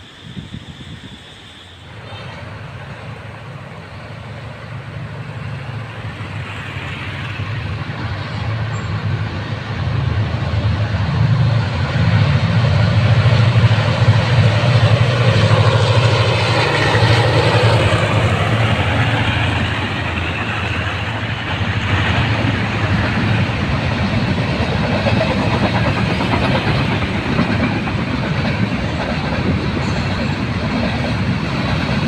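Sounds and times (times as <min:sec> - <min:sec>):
locomotive engine drone: 0:00.0 - 0:32.0.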